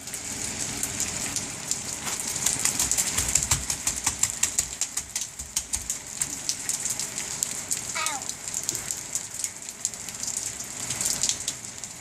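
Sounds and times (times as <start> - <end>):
rain drops splashing: 0.0 - 12.0
rain hiss: 0.0 - 12.0.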